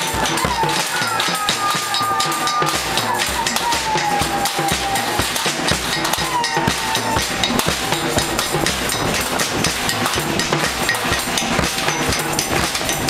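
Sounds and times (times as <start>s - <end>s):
crowd banging noisemakers and drums: 0.0s - 13.0s.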